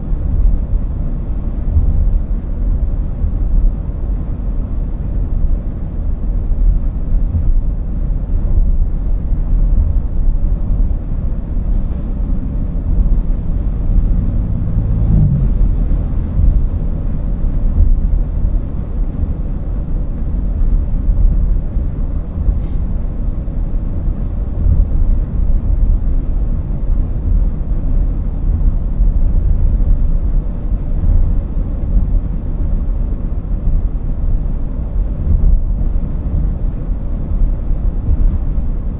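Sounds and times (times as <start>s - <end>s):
car driving interior rumble: 0.0s - 38.9s.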